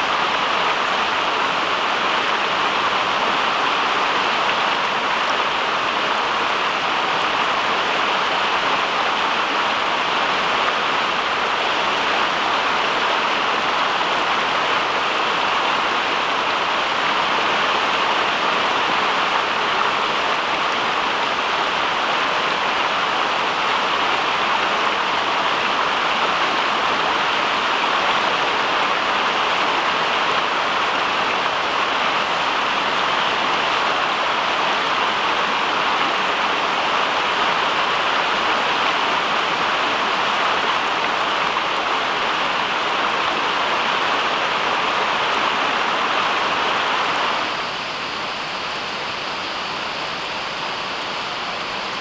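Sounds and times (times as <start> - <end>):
rushing water: 0.0 - 52.0.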